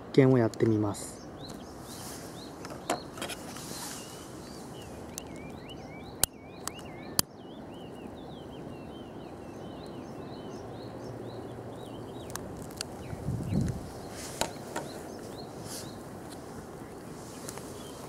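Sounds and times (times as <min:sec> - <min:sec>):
outdoor background hiss: 0:00.0 - 0:18.0
small birds chirping: 0:00.0 - 0:18.0.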